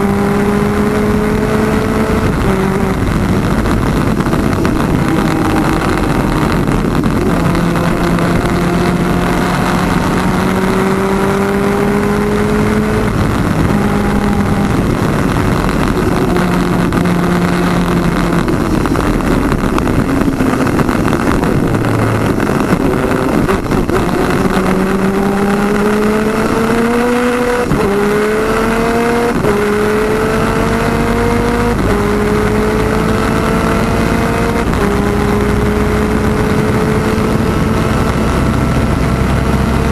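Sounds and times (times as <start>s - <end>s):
gear upshifts: 0.0s - 39.9s
kart engine at racing speed: 0.0s - 39.9s
loud steady rush of noise: 0.0s - 39.9s.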